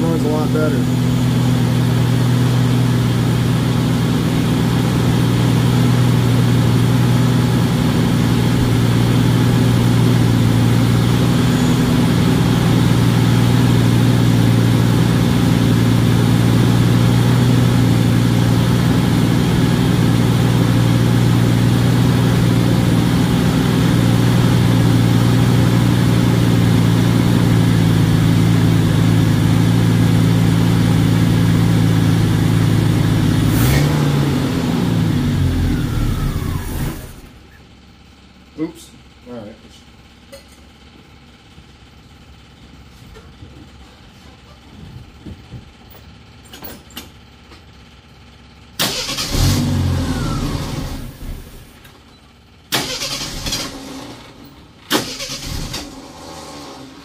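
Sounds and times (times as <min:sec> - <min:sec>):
car engine idling: 0:00.0 - 0:46.4.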